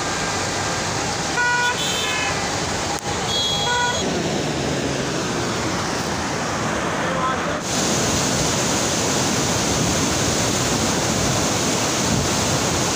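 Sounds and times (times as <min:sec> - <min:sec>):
flooding river rushing: 0:00.0 - 0:12.9.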